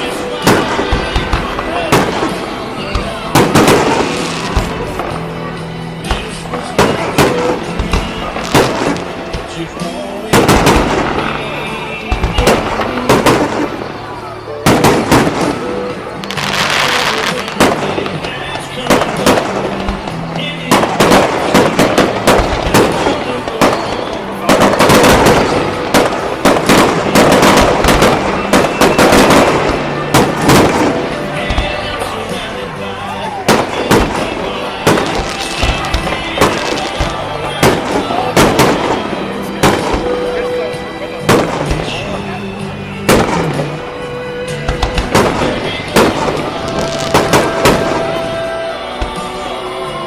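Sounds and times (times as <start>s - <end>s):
background music with held notes: 0.0s - 50.0s
fireworks banging: 0.0s - 50.0s
fireworks crackling: 0.0s - 50.0s.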